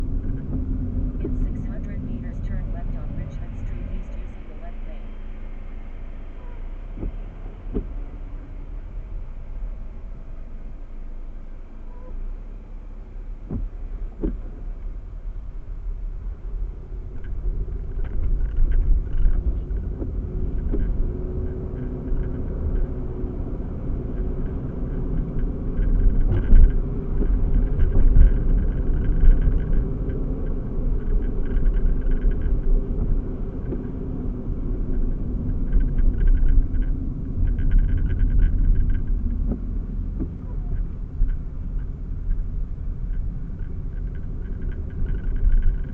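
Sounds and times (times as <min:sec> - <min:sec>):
heavy engines rumbling: 0:00.0 - 0:45.9.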